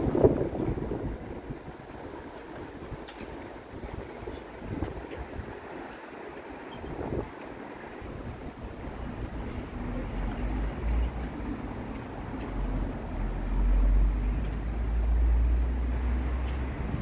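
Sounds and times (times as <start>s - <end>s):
city rumble and hiss: 0.0s - 17.0s.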